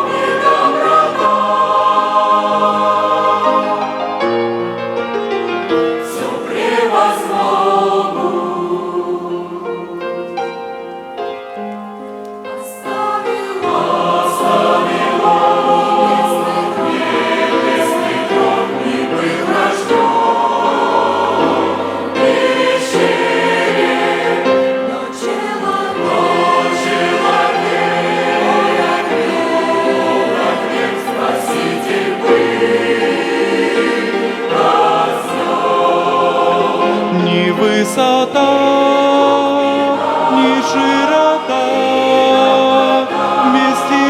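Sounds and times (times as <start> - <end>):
choir singing a hymn: 0.0 - 44.0.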